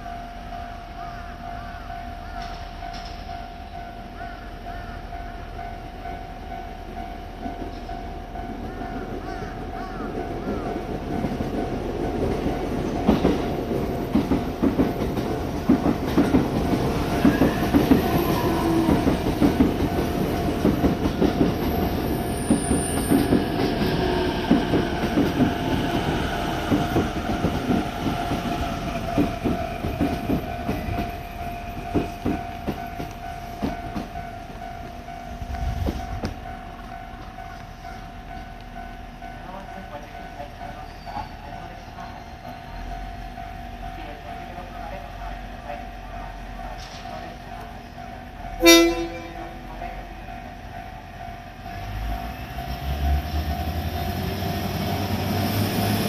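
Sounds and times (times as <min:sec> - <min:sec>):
diesel train running: 0:00.0 - 0:56.0.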